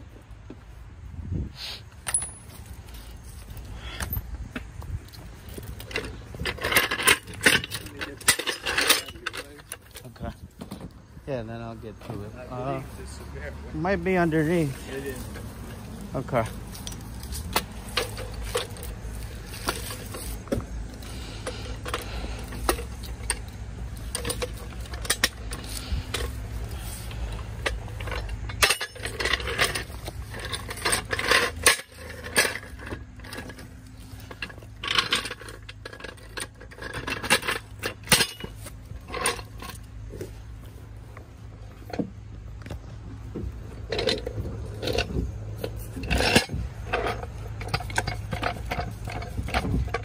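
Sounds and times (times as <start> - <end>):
metal tools clinking: 1.9 - 42.8, 43.6 - 50.0.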